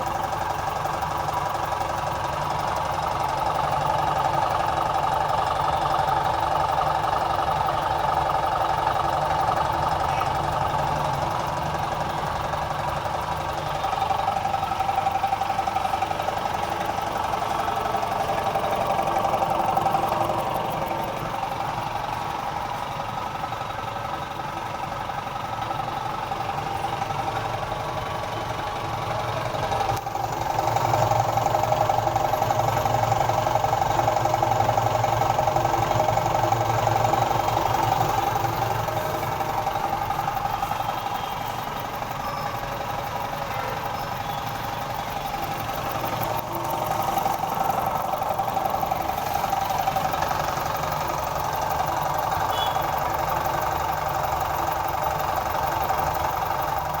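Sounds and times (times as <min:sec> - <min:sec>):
air compressor chugging: 0:00.0 - 0:57.0.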